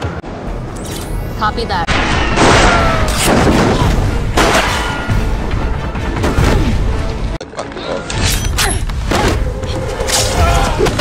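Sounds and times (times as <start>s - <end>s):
dramatic music: 0.0s - 11.0s.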